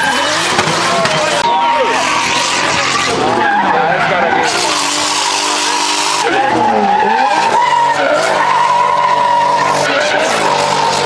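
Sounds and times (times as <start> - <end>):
car engine revving hard: 0.0 - 11.0
tyres skidding: 0.0 - 11.0.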